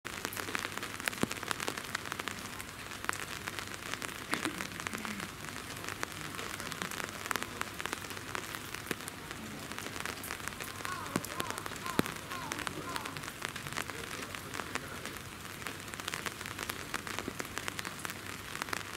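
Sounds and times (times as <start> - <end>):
rain pattering: 0.0 - 18.9.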